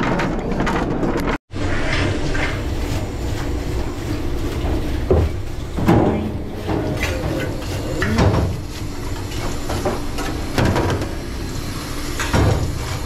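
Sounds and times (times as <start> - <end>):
cart rolling: 0.0 - 13.0
steady low hum: 1.5 - 13.0
scrubbing under water: 1.6 - 13.0.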